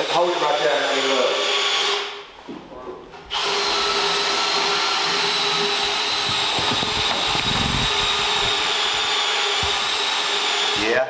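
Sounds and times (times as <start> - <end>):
power tool motor whining: 0.3 - 2.2, 3.3 - 11.0.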